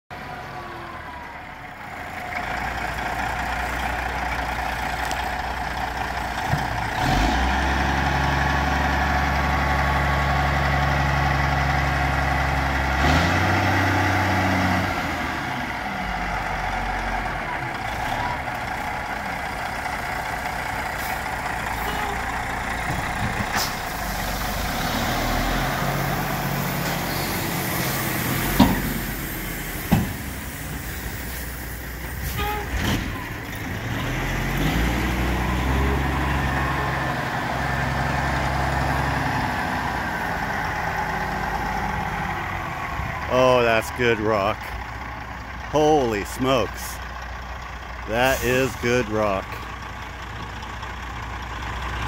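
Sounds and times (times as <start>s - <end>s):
diesel truck engine: 0.1s - 52.0s.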